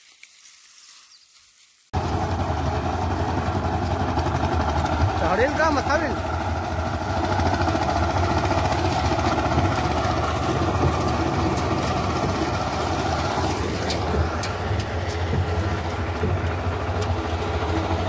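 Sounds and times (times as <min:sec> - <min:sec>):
tractor engine idling and revving: 0:01.9 - 0:18.0.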